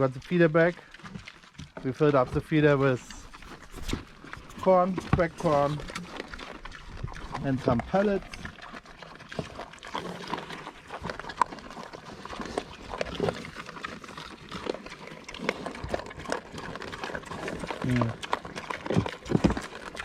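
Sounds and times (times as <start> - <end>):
pigs crunching feed: 0.0 - 20.0
pig grunting: 1.9 - 20.0.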